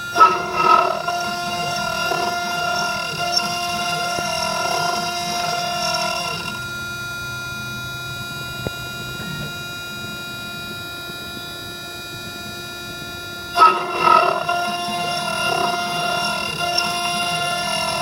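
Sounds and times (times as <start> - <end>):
end mill cutting metal: 0.0 - 18.0
milling spindle whine: 0.0 - 18.0.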